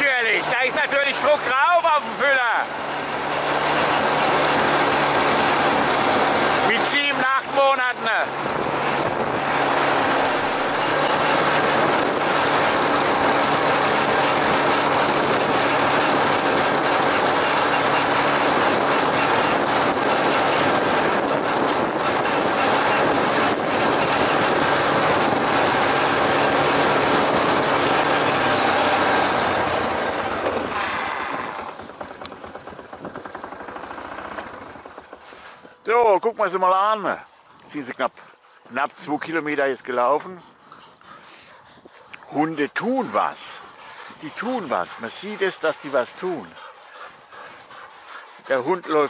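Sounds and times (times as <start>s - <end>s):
atv engine running: 0.0s - 49.0s
rushing travel noise: 0.0s - 49.0s.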